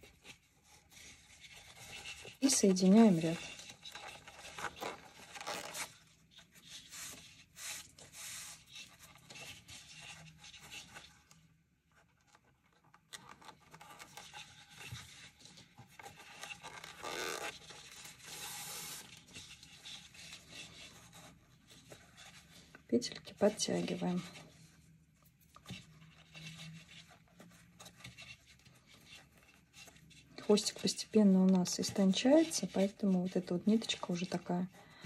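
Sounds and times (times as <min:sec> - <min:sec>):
yarn rubbing and rustling: 0:00.0 - 0:35.0.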